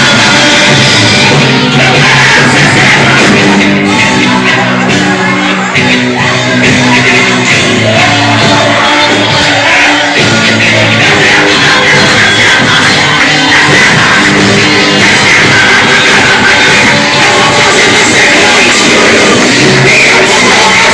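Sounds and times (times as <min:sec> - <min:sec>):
loud band music: 0:00.0 - 0:20.9
voices singing and shouting: 0:00.0 - 0:20.9.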